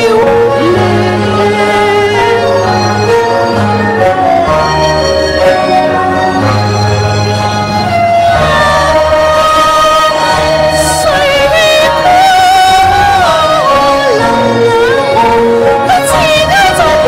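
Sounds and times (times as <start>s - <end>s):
held instrument tones: 0.0s - 17.0s
opera singing: 0.0s - 17.0s.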